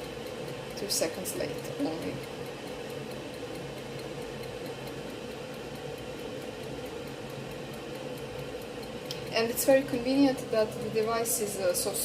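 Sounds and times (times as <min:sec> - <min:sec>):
electric kettle heating water: 0:00.0 - 0:12.0.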